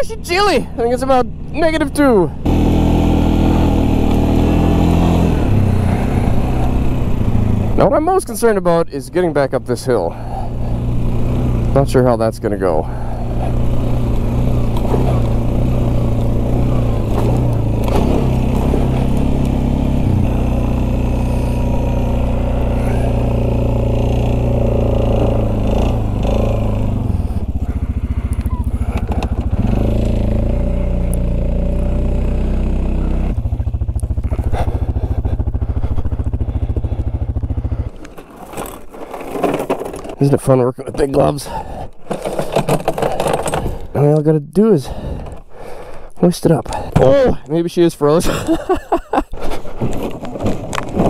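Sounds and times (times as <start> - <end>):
atv engine running: 0.0 - 44.2, 46.7 - 51.0.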